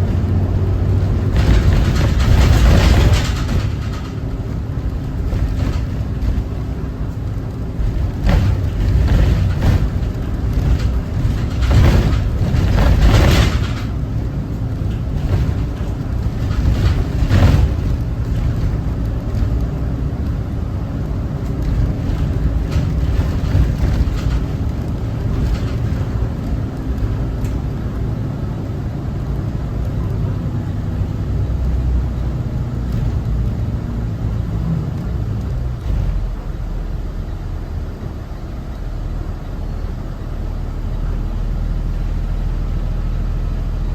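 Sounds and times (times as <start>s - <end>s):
diesel bus engine rumble: 0.0s - 43.9s
road noise: 0.0s - 43.9s.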